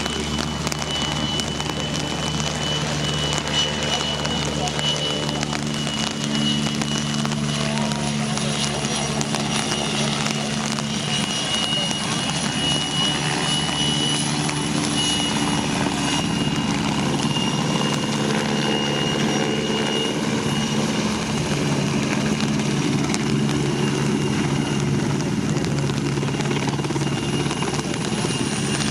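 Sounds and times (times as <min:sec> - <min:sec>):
helicopter rotor and engine hum: 0:00.0 - 0:28.9
high turbine whine: 0:00.0 - 0:28.9.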